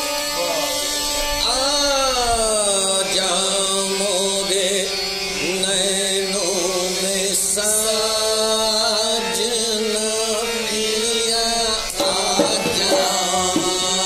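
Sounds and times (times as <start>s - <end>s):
men singing ornamented melody: 1.4s - 14.0s.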